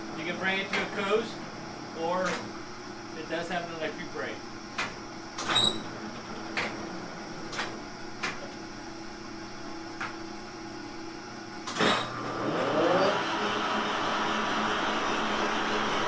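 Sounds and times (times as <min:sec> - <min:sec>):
lathe drive humming: 0:00.0 - 0:16.0
lathe spindle whining: 0:00.0 - 0:16.0.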